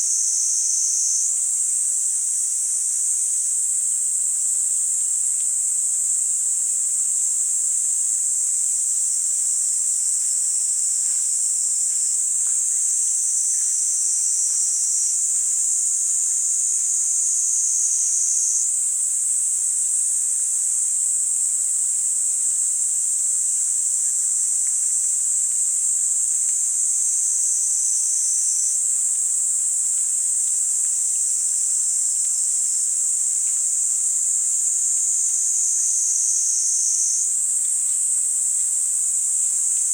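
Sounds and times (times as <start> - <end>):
cicadas buzzing: 0.0 - 39.9
lower cicada buzz: 0.0 - 39.9.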